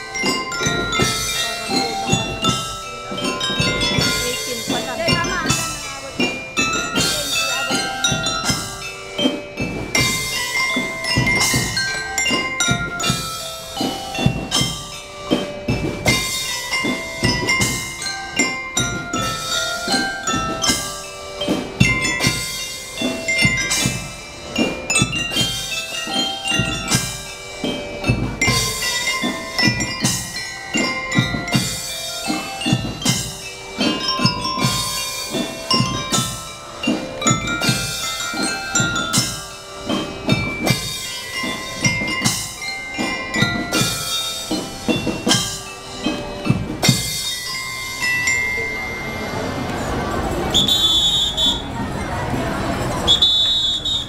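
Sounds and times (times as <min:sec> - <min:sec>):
steady drumbeat: 0:00.0 - 0:53.2
bell lyre melody: 0:00.0 - 0:53.4.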